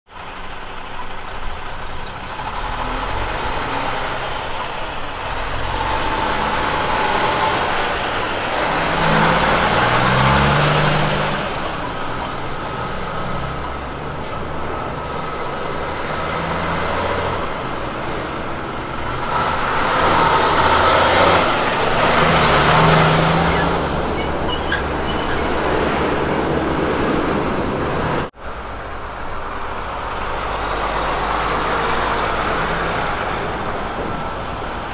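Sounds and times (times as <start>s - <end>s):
diesel truck engine under load: 0.1s - 34.9s
tyre and trailer noise: 0.1s - 34.9s.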